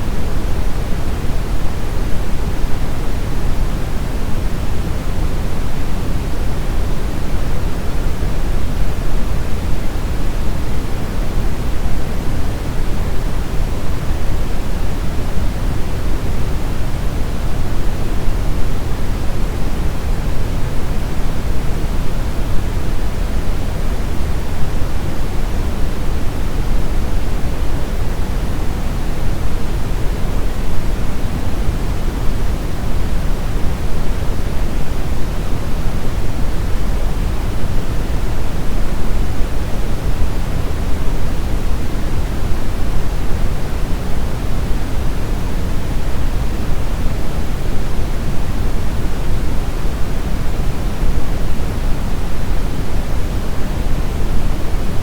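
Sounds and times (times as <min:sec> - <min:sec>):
brown noise rumbling hiss: 0:00.0 - 0:55.0.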